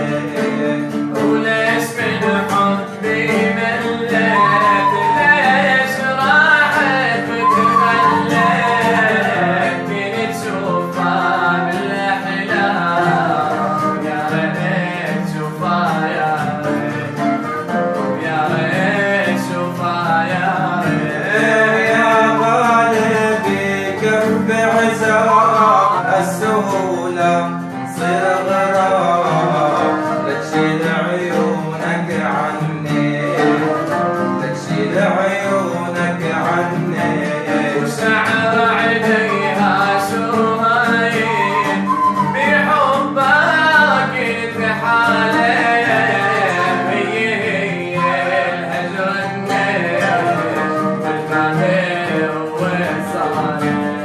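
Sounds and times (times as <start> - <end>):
man singing ornamented lines: 0.0 - 54.0
plucked-string accompaniment: 0.0 - 54.0.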